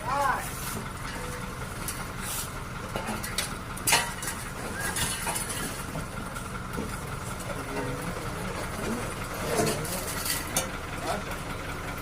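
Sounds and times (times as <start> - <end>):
engine rumbling steadily: 0.0 - 12.0.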